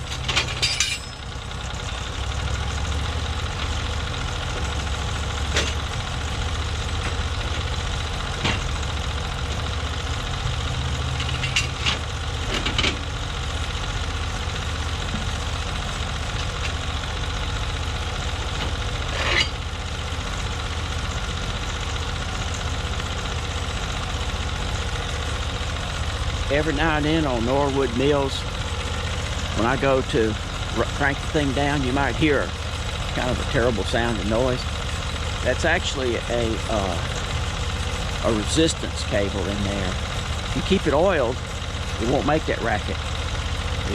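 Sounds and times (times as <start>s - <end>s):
bandsaw mill engine running: 0.0s - 43.9s.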